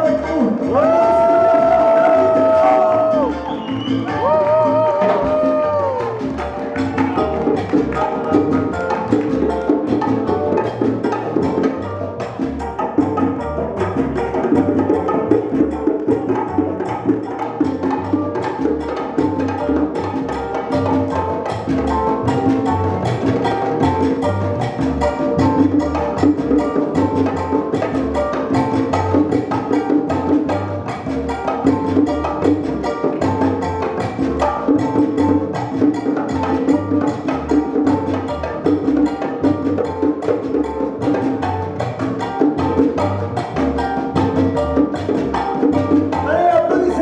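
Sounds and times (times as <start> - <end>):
latin band playing: 0.0 - 47.0
repeating bass line: 0.0 - 47.0
quick percussion strikes: 0.7 - 47.0.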